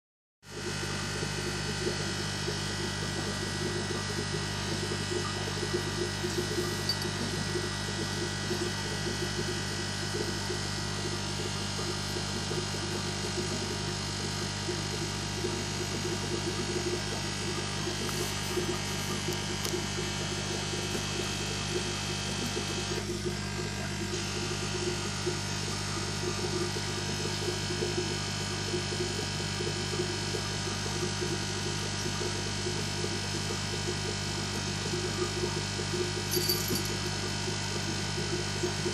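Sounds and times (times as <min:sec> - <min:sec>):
aquarium equipment hum: 0:00.5 - 0:38.9.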